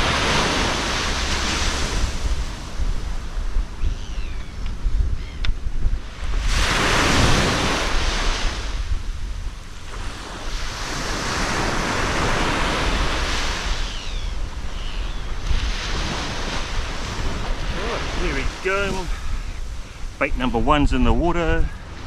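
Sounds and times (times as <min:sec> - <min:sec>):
waves washing onto shore: 0:00.0 - 0:03.8, 0:05.8 - 0:22.0
wind buffeting microphone: 0:00.0 - 0:22.0.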